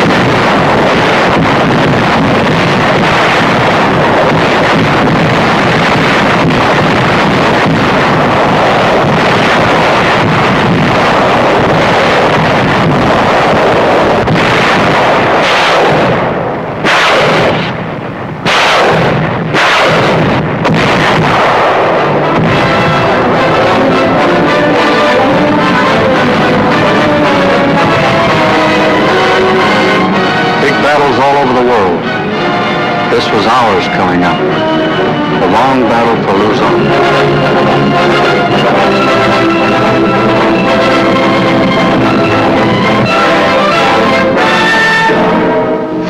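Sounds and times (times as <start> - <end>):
rumble of gunfire: 0.0 - 32.3, 33.1 - 44.5
sharp blasts: 0.0 - 46.0.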